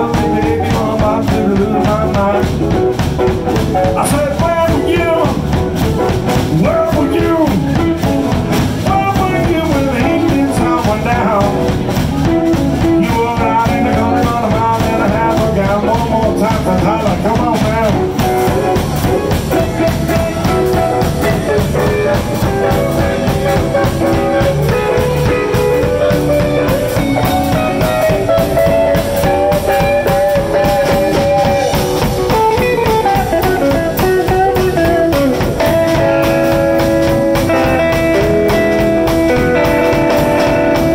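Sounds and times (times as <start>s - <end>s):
live blues band playing: 0.0s - 40.9s.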